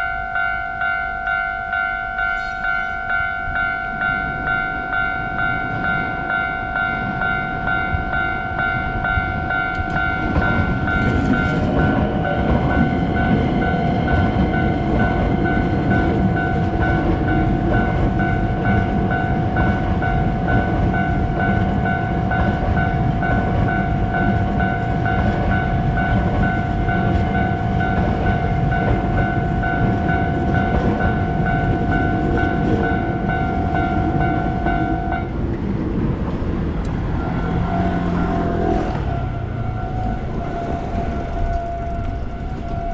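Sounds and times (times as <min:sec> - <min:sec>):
level crossing warning bell ringing: 0:00.0 - 0:35.5, 0:37.1 - 0:42.9
train rumbling past: 0:00.0 - 0:42.9.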